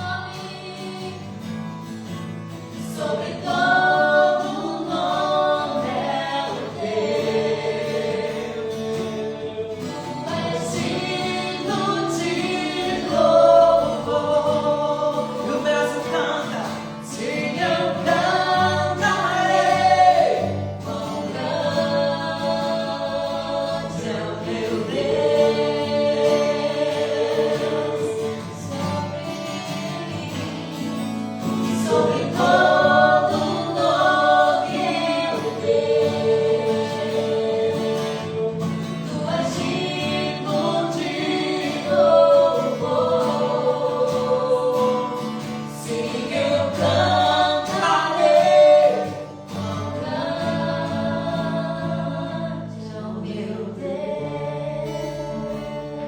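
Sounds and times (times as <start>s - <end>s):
group singing worship song: 0.0s - 56.0s.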